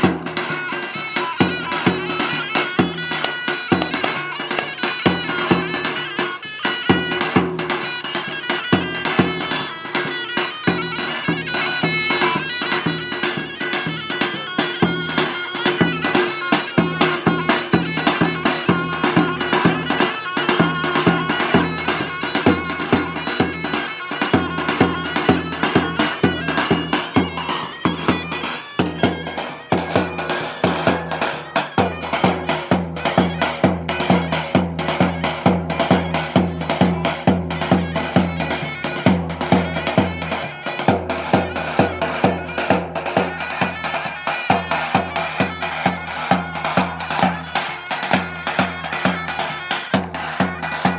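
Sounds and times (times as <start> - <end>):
driving drum beat: 0.0 - 50.9
shrill reed wind instrument melody: 0.0 - 50.9.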